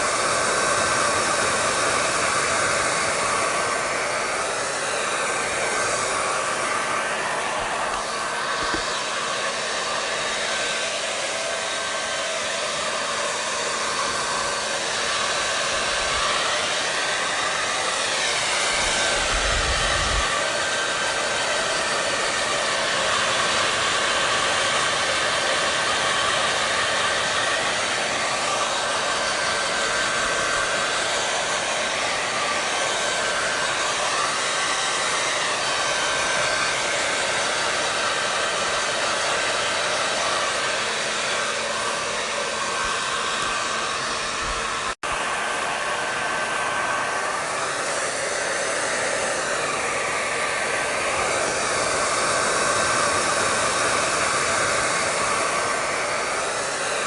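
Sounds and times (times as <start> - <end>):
hair dryer blowing: 0.0 - 57.0.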